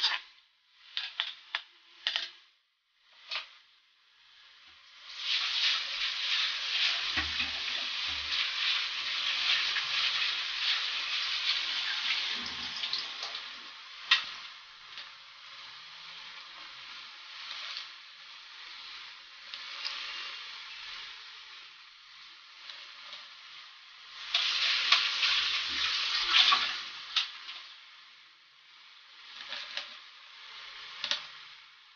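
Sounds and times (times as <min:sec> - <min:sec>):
meat sizzling in a wok: 0:00.0 - 0:02.2, 0:03.0 - 0:31.9.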